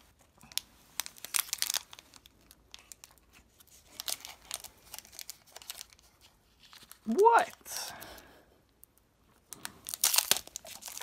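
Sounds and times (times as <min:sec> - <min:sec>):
foil wrapper crinkling and tearing: 0:00.0 - 0:07.6, 0:09.4 - 0:11.0.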